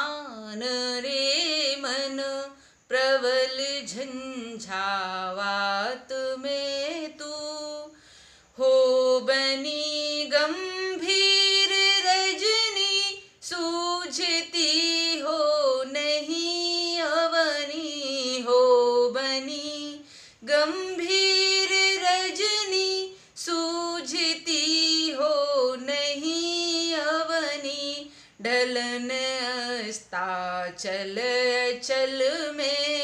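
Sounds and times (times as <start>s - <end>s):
woman singing unaccompanied: 0.0s - 33.0s.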